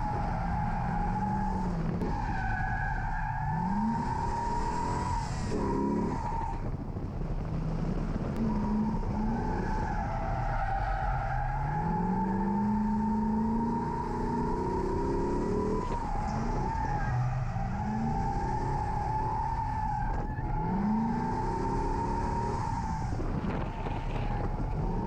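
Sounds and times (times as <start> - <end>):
car engine revving: 0.0 - 6.8, 7.5 - 25.0
tires squealing: 0.0 - 6.8, 7.5 - 25.0.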